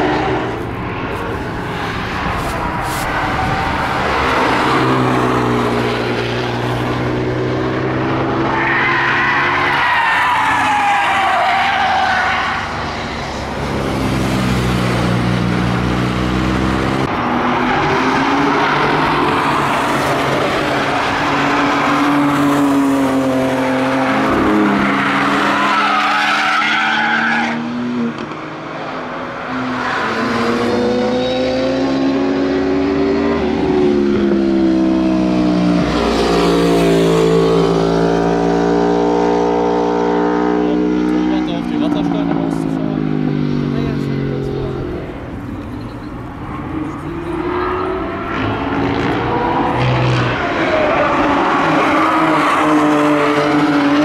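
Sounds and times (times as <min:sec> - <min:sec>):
cars passing at speed: 0:00.0 - 0:54.0.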